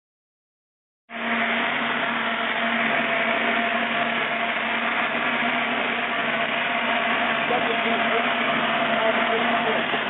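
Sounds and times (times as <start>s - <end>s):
machinery hum: 1.1s - 10.0s.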